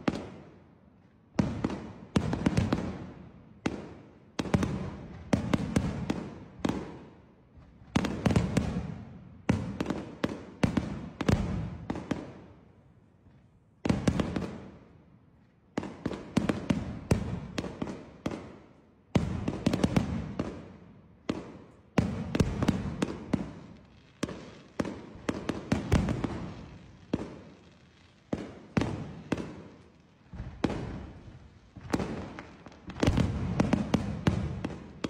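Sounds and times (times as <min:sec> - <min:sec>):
fireworks bangs echoing: 0:00.0 - 0:00.6, 0:01.4 - 0:12.5, 0:13.8 - 0:14.9, 0:15.8 - 0:35.0.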